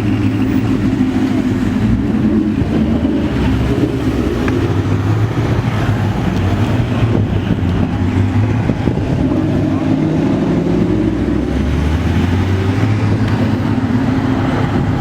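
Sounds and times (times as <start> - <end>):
car engine droning steadily: 0.0 - 15.0.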